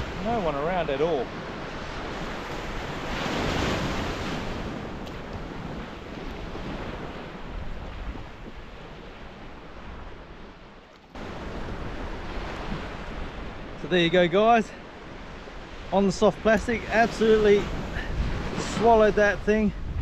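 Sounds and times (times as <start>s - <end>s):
wind on microphone: 0.0s - 13.9s, 14.8s - 20.0s
small waves breaking on sand: 0.0s - 20.0s.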